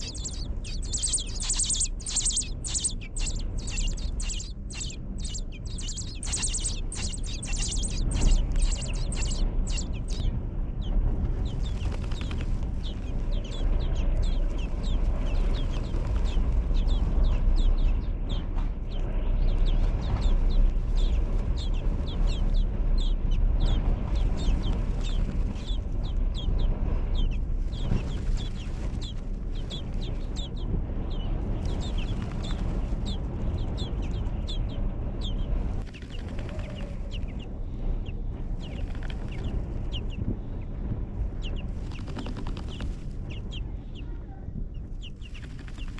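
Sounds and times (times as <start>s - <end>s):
birds chirping: 0.0s - 45.9s
steady low rumble: 0.0s - 45.9s.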